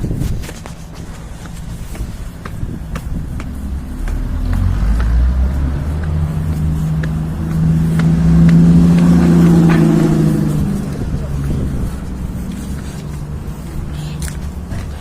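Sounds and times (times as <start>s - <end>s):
light footsteps: 0.0s - 15.0s
car engine running: 1.0s - 15.0s.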